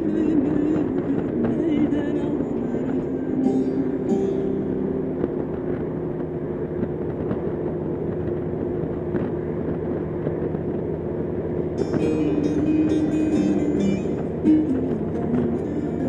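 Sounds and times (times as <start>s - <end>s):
motorcycle engine hum: 0.0s - 16.0s
wind and road noise: 0.0s - 16.0s.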